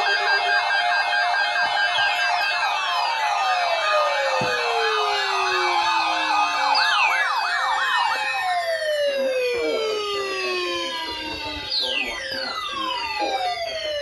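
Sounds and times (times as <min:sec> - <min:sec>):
siren falling tones: 0:00.0 - 0:14.0
siren yelping: 0:00.0 - 0:14.0.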